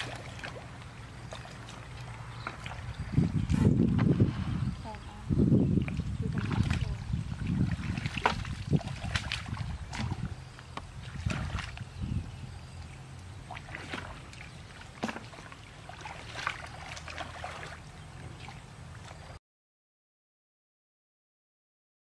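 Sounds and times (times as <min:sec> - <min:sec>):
splashing in muddy water: 0:00.0 - 0:05.0, 0:05.7 - 0:19.4.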